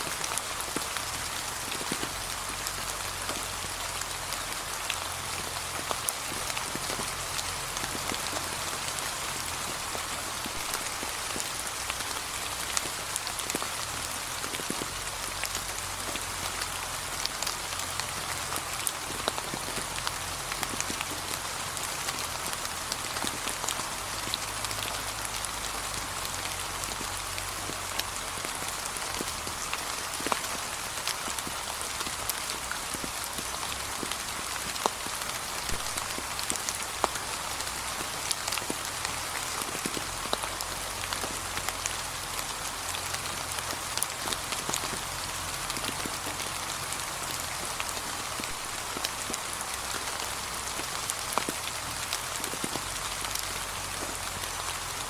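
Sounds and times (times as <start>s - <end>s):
rain falling on leaves: 0.0s - 55.0s
raindrops ticking: 0.0s - 55.0s.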